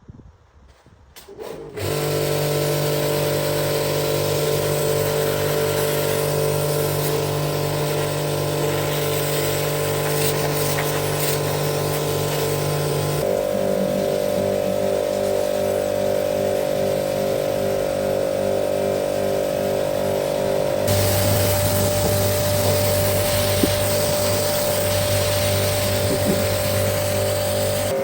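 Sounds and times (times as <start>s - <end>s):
motor humming: 1.2s - 28.0s.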